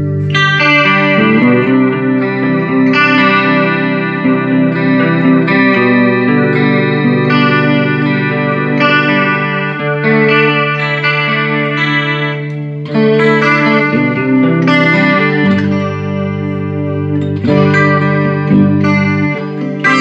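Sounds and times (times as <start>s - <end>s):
electric guitar chords strummed: 0.0s - 20.0s.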